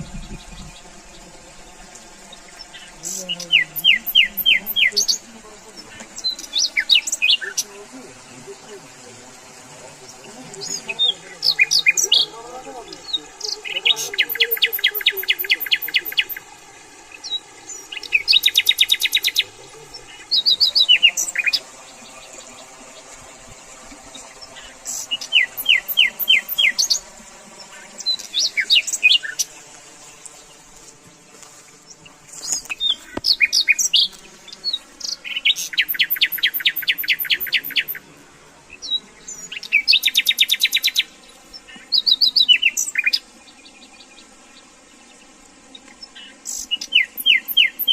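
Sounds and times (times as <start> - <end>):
songbirds trilling: 0.0 - 47.9.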